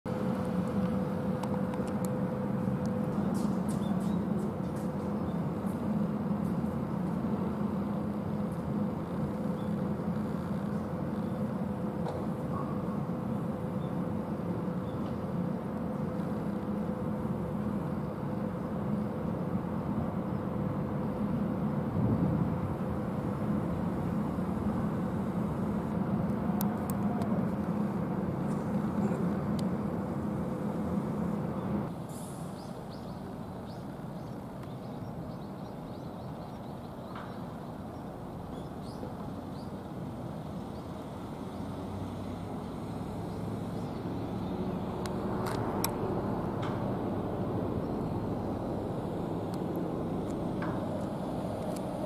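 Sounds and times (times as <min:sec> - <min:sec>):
low vehicle rumble: 0:00.1 - 0:52.0.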